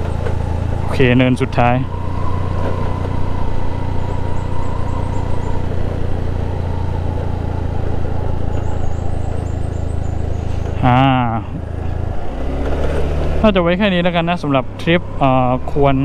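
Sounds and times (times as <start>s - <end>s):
scooter engine humming: 0.0s - 16.0s
wind and road noise: 0.0s - 16.0s.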